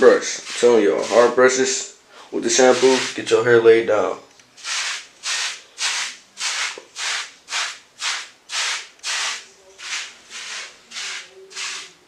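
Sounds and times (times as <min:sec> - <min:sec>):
brush rasping over lathered hair: 0:00.0 - 0:01.8, 0:02.5 - 0:03.3, 0:04.6 - 0:12.0.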